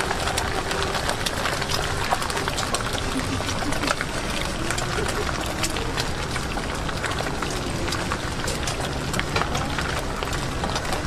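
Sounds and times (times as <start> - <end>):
omelette sizzling on griddle: 0.0 - 11.0.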